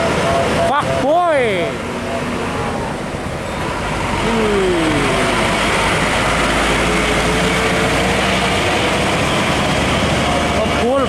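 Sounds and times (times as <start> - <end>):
diesel trucks driving past: 0.0 - 11.0
steady engine drone: 0.0 - 11.0.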